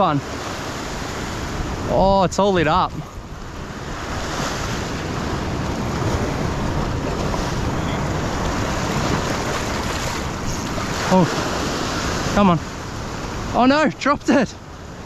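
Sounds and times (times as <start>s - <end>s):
wind on microphone: 0.0s - 13.6s
ocean swell washing over rocks: 0.0s - 15.0s.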